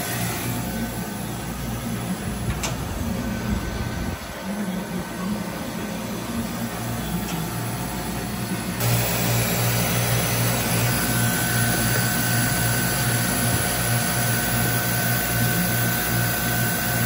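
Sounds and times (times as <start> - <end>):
water chiller humming: 0.0 - 17.0.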